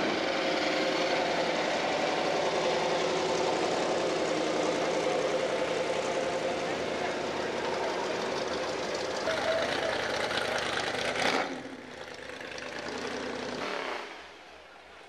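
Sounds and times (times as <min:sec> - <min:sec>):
car engines cruising slowly past: 0:00.0 - 0:15.0.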